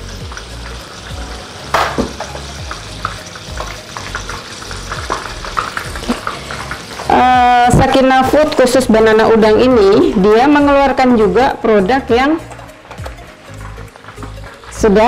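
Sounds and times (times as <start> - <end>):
prawns sizzling in hot oil: 0.0 - 15.0.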